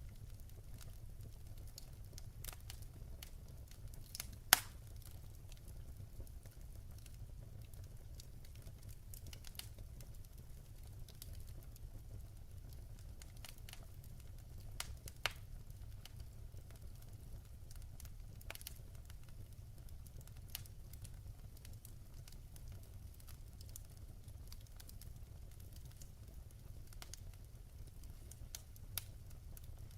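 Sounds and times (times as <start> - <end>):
logs crackling and popping: 0.0 - 29.9
low rumble of flames: 0.0 - 29.9.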